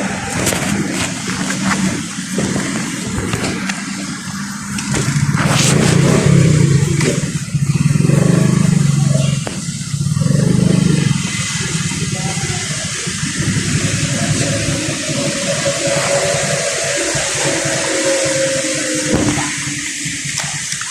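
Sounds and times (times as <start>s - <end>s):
tyres hissing on wet road: 0.0s - 20.9s
vehicle engine running: 0.0s - 20.9s.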